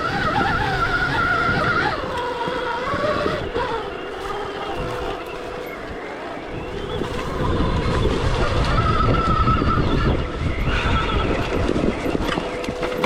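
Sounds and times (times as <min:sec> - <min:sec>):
electric motorbike motor whining: 0:00.0 - 0:13.0.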